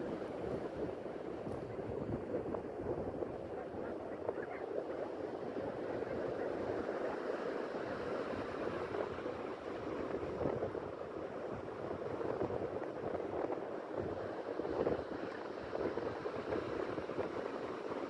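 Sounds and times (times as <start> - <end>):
sea washing on shore: 0.0 - 18.0
wind rumbling on microphone: 0.0 - 18.0.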